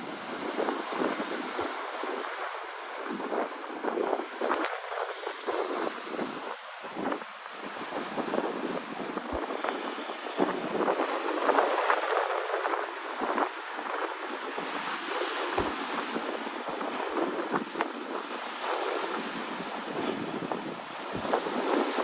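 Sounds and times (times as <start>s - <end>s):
strong wind: 0.0s - 22.0s
waves crashing against rocks: 0.0s - 22.0s.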